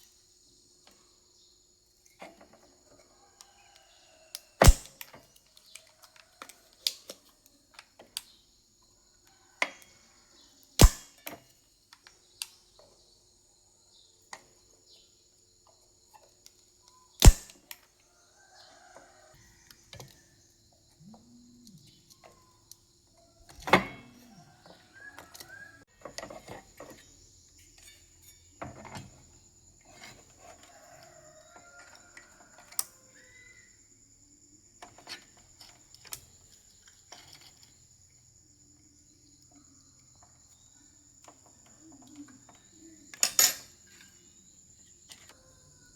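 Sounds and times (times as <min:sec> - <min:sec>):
crickets chirring: 0:00.0 - 0:45.9.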